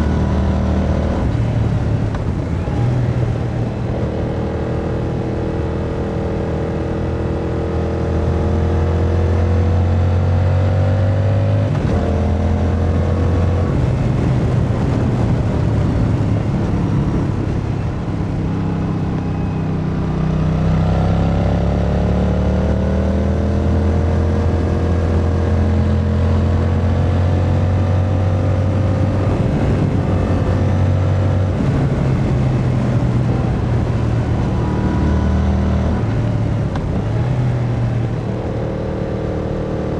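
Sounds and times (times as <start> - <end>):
wind noise: 0.0 - 21.9, 22.8 - 39.9
motorcycle engine accelerating: 0.0 - 39.9.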